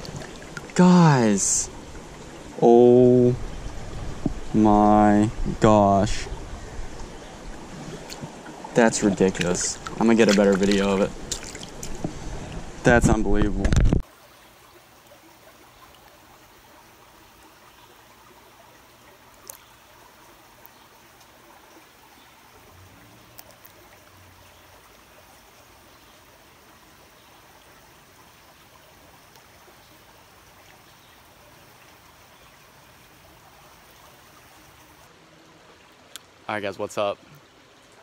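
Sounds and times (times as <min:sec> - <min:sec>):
creek flowing: 0:00.0 - 0:38.0.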